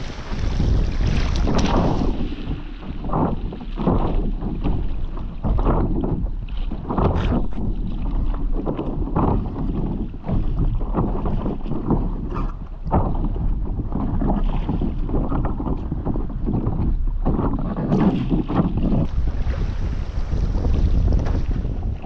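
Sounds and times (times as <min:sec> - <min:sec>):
paddle splashing in water: 0:00.0 - 0:22.0
water slapping at board: 0:00.0 - 0:22.0
wind rumble on microphone: 0:00.0 - 0:22.0.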